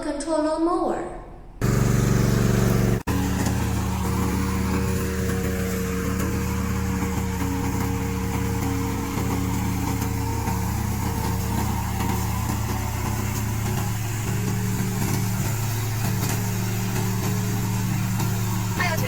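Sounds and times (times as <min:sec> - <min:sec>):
small gasoline engine running: 0:01.6 - 0:19.0.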